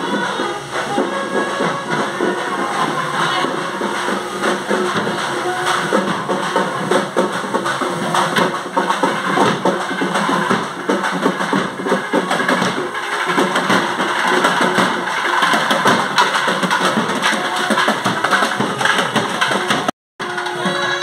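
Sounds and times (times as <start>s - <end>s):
rapid dense drumming: 0.0s - 21.0s.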